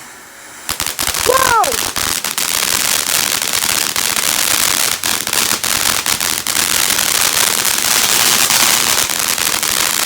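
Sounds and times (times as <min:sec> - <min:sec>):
firework fountain hissing and crackling: 0:00.0 - 0:10.0.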